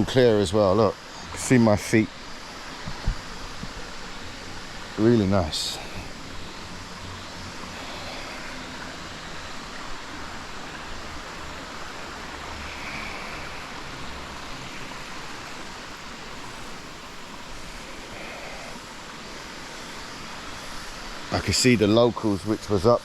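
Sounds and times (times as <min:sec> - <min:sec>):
waterfall rushing: 0:01.0 - 0:21.4.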